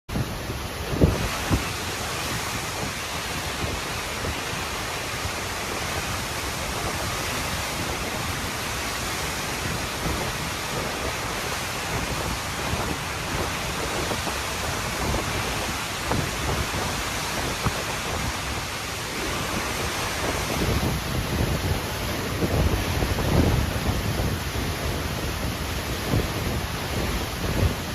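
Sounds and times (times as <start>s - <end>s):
wind and rain rushing: 0.1s - 27.9s
wind gusts buffeting microphone: 0.1s - 27.9s.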